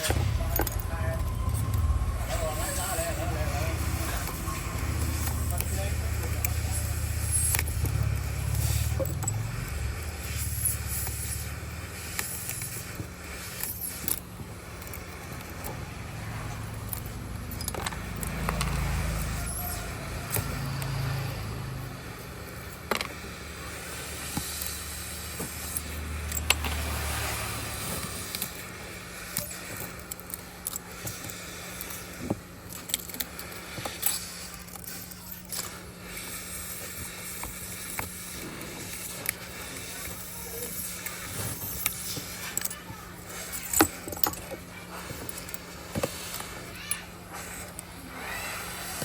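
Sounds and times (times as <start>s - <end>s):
hand tools clicking and scraping: 0.0s - 21.6s, 22.5s - 49.0s
steady low hum: 0.0s - 49.0s.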